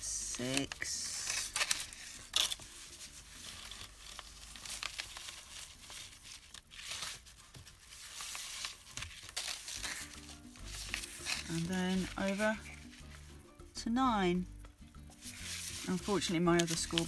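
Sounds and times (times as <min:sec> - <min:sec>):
paper rustling and sliding: 0:00.0 - 0:13.4, 0:15.1 - 0:17.0.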